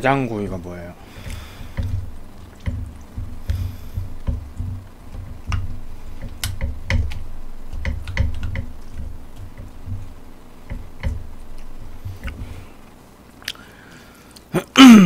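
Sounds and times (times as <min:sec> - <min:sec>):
low thuds: 0:00.0 - 0:13.0.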